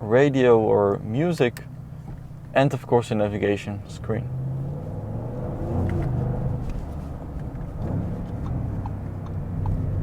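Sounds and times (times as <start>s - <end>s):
car engine running in cabin: 0.0s - 10.0s.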